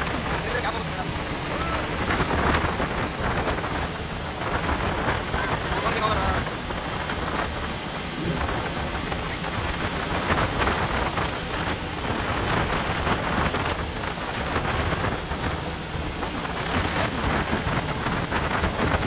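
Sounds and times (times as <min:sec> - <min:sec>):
churning water and spray: 0:00.0 - 0:19.0
wind buffeting microphone: 0:00.0 - 0:19.0.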